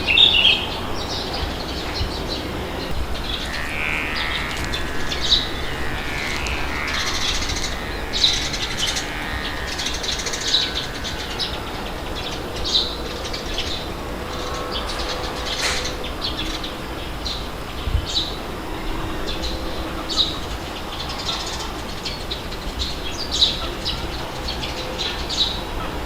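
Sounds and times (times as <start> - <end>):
low wind rumble: 0.0 - 26.0
songbirds chirping: 0.0 - 26.0.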